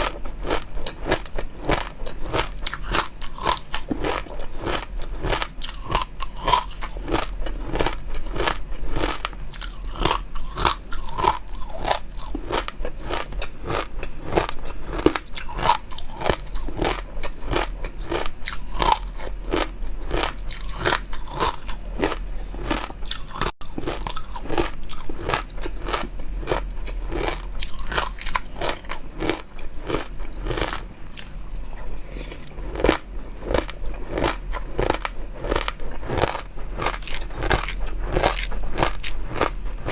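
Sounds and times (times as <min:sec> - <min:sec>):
person crunching food: 0:00.0 - 0:39.9.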